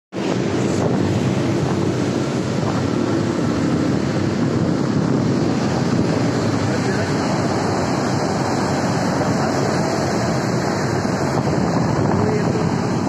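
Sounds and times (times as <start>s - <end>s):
motorcycle running: 0.1s - 13.0s
wind buffeting microphone: 0.1s - 13.0s.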